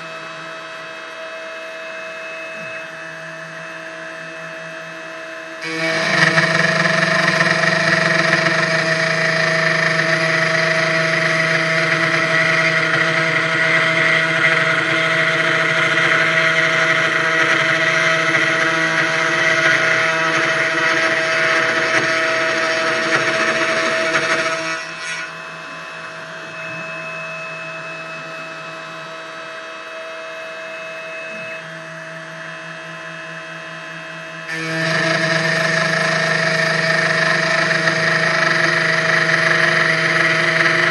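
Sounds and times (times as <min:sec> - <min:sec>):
router spindle motor whine: 0:00.0 - 0:40.9.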